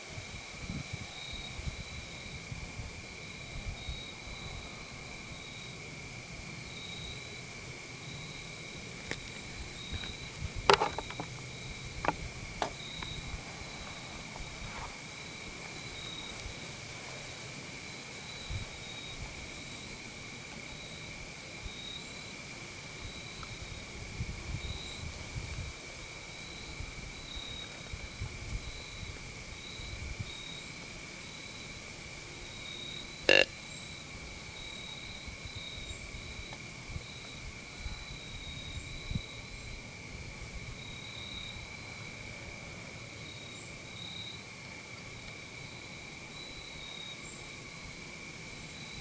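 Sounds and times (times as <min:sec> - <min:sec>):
crickets and insects trilling: 0:00.0 - 0:49.0.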